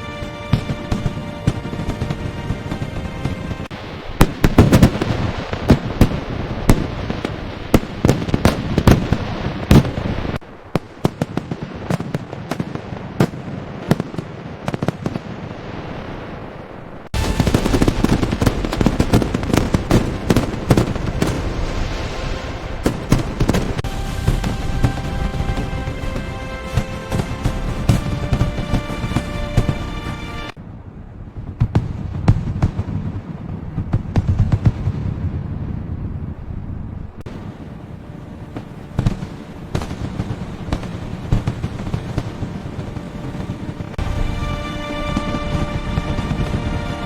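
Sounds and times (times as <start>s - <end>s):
fireworks bursting with crackle: 0.0s - 30.6s, 31.4s - 36.0s, 37.2s - 47.0s.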